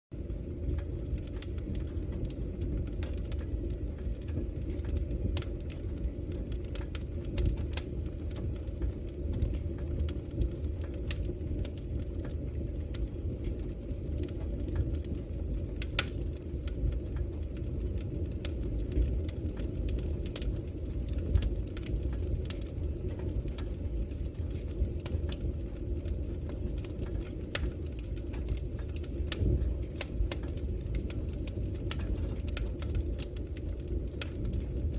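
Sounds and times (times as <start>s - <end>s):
campfire flames rumbling: 0.1s - 34.9s
fire crackles and pops: 0.1s - 34.9s.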